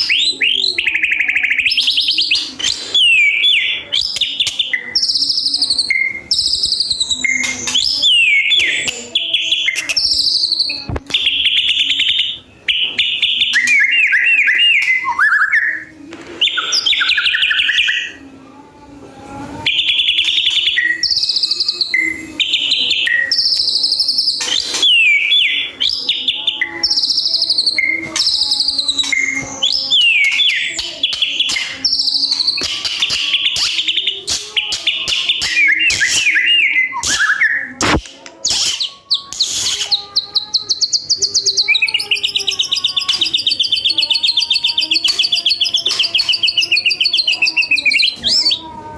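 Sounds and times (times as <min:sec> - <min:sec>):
bird singing whistled phrases: 0:00.0 - 0:18.2, 0:19.6 - 0:48.6.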